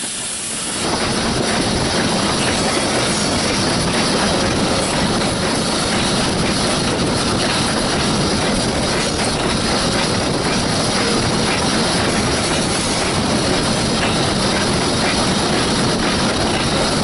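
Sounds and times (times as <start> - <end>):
train wheels clattering on rail: 0.0 - 17.0.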